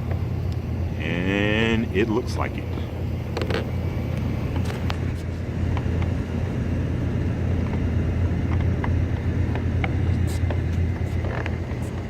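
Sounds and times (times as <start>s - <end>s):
air conditioning unit humming: 0.0s - 12.0s.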